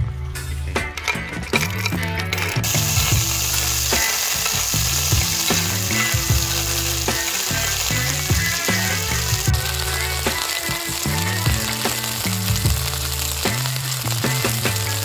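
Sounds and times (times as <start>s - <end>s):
background music: 0.0s - 15.0s
shellfish sizzling on hot stone: 2.6s - 15.0s.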